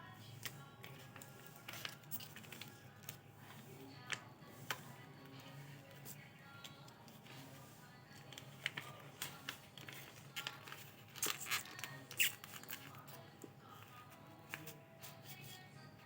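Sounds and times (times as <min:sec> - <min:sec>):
paper crinkling and rustling: 0:00.3 - 0:15.6.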